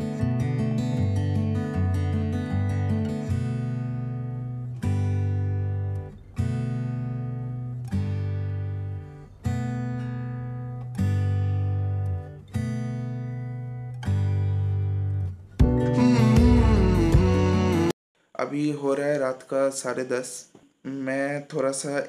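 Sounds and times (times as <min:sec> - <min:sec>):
strummed acoustic guitar chords: 0:00.0 - 0:17.9.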